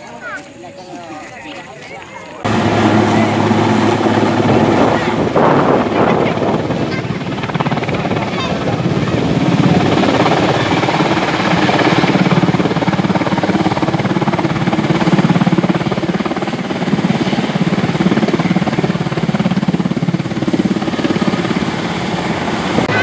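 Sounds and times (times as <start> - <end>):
helicopter rotor beating: 0.0 - 23.0.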